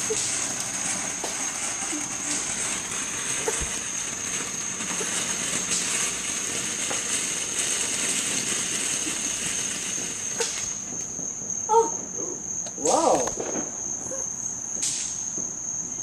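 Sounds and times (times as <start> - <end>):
crickets chirring: 0.0 - 16.0
firework hissing and crackling: 0.0 - 16.0.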